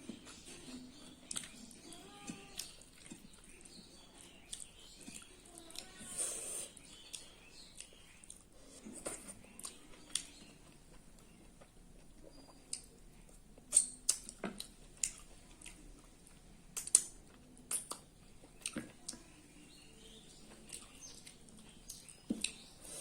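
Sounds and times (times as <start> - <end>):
person chewing with mouth smacks: 0.0 - 19.2, 20.4 - 23.0.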